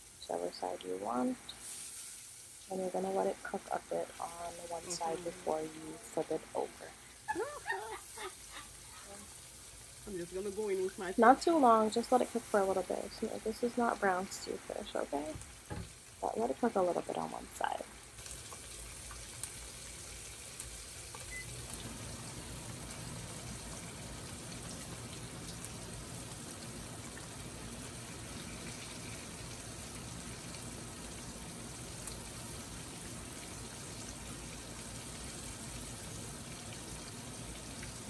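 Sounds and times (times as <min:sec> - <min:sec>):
fish frying in hot oil: 0:00.0 - 0:38.0.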